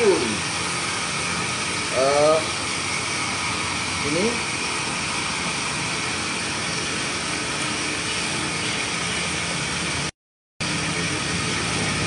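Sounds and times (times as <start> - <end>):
commercial kitchen rushing noise: 0.0 - 12.0.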